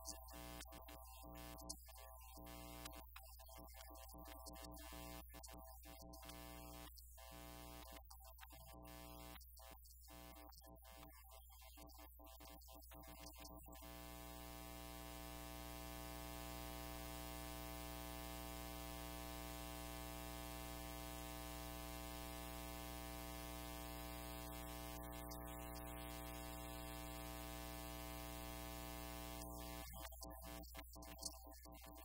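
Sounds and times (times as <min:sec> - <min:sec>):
electronic buzzing drone: 0:03.8 - 0:11.1, 0:11.8 - 0:31.4.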